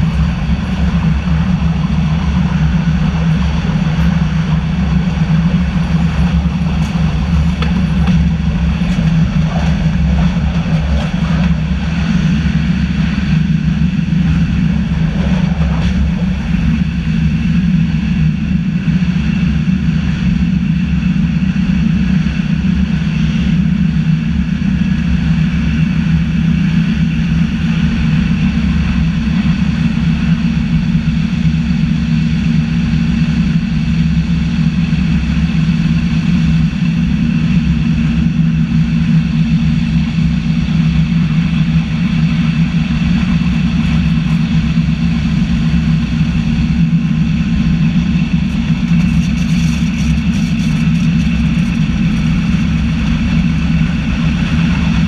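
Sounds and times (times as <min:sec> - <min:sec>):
electric train rumble: 0:00.0 - 0:55.0.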